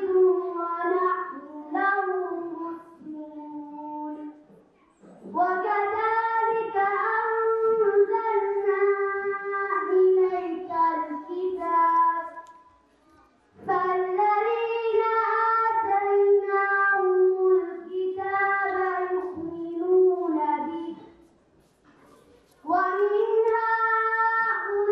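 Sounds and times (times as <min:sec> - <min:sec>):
girl chanting a recitation: 0:00.0 - 0:04.5, 0:05.2 - 0:12.8, 0:13.6 - 0:21.2, 0:22.6 - 0:24.9.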